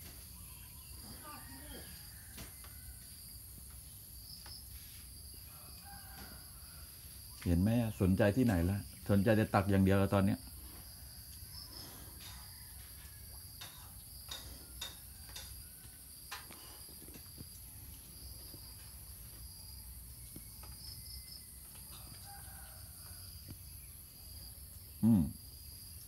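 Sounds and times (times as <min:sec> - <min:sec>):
insect chirring: 0:00.0 - 0:26.0.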